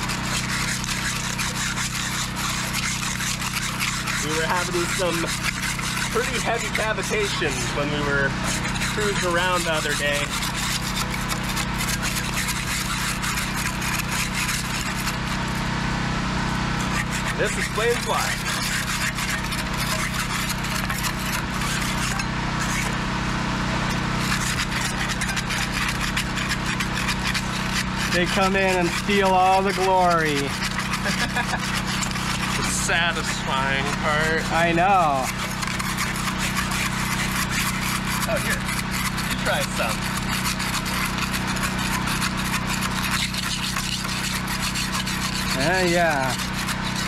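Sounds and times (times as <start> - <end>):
barnacles scraped off metal: 0.0 - 15.6, 16.8 - 23.0, 23.8 - 47.0
steady low hum: 0.0 - 47.0.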